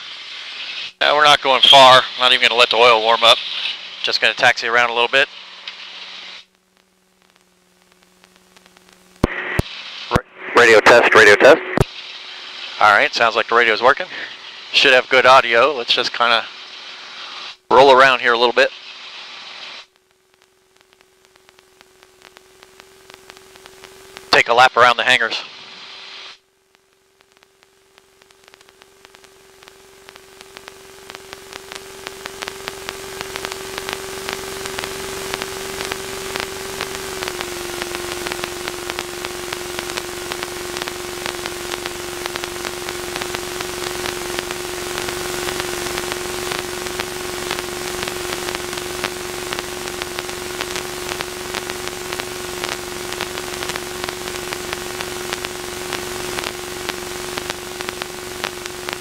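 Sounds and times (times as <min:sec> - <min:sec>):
radio static hiss and crackle: 0:00.0 - 0:59.0
steady whine: 0:00.0 - 0:59.0.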